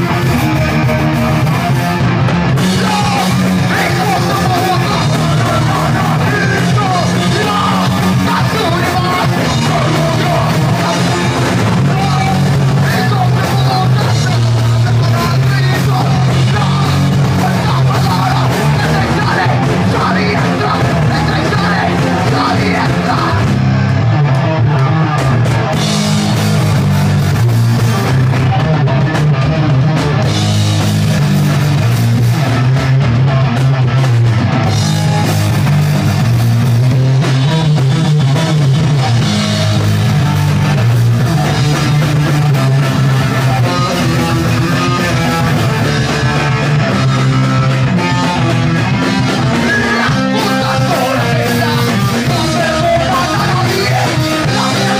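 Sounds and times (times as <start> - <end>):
bass guitar: 0.0 - 54.9
drum kit: 0.0 - 54.9
electric guitars: 0.0 - 54.9.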